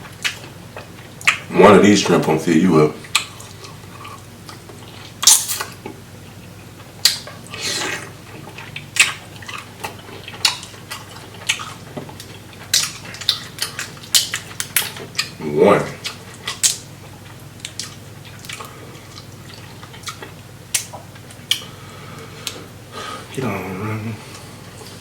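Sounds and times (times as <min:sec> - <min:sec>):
chewing with mouth smacks: 0:00.0 - 0:01.5, 0:03.0 - 0:22.8.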